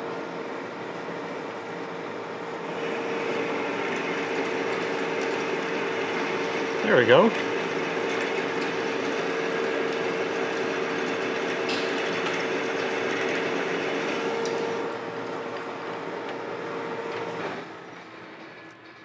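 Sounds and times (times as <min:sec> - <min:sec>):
lathe machine hum: 0:01.7 - 0:19.0.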